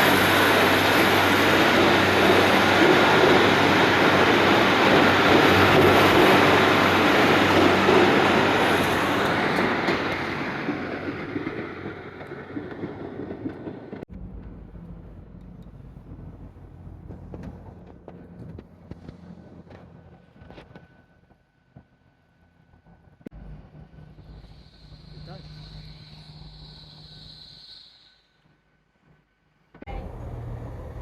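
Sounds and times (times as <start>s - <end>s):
train passing: 0.0s - 28.5s, 29.9s - 31.0s.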